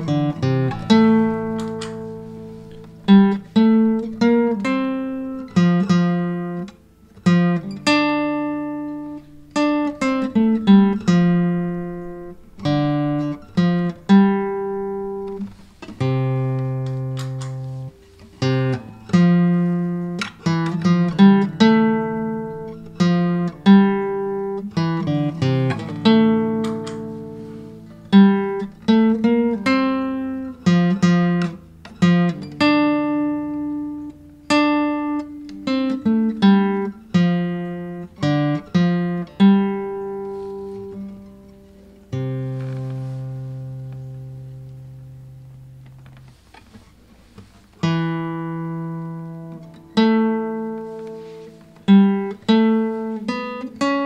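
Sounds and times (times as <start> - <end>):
acoustic guitar picking melody: 0.0 - 54.0.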